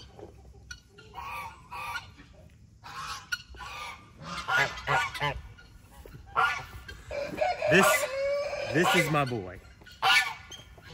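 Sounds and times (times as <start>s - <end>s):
geese honking: 0.0s - 10.9s.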